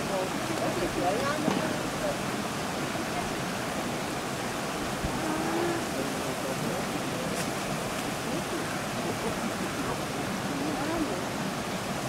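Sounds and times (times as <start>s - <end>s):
faint voices: 0.0s - 12.0s
stream rushing: 0.0s - 12.0s.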